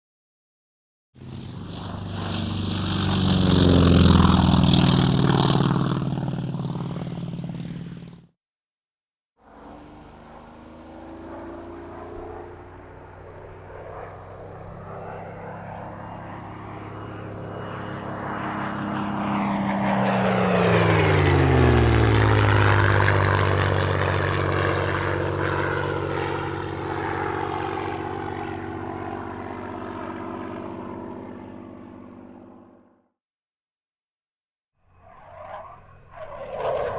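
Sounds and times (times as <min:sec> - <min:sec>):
airplane flying past: 0:01.2 - 0:08.3, 0:09.4 - 0:33.0, 0:34.9 - 0:36.9.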